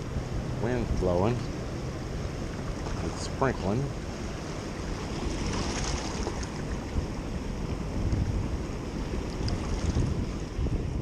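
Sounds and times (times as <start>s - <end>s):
water rushing from spillway: 0.0s - 10.6s
wind buffeting microphone: 0.0s - 11.0s.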